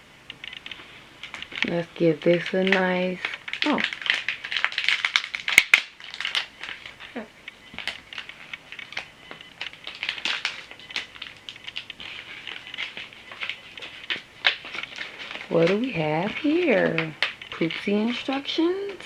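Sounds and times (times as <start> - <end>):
plastic and paper packaging crinkling: 0.0 - 19.0
sharp snaps: 0.2 - 19.0.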